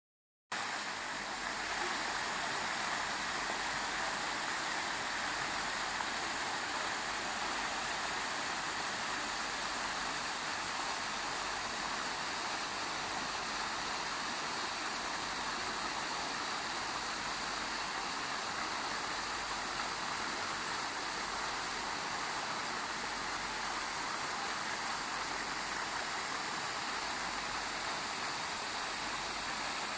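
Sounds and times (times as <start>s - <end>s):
fountain water splashing: 0.6s - 29.9s.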